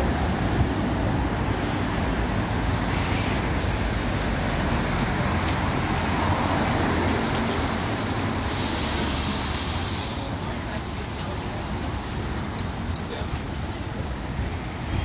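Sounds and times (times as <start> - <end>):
cars passing on wet street: 0.0 - 15.0.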